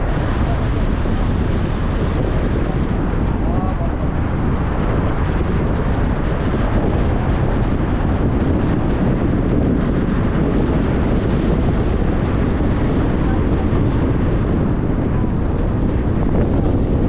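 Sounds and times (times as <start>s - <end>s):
moving car rumble: 0.0s - 17.0s
wind buffeting microphone: 0.0s - 17.0s.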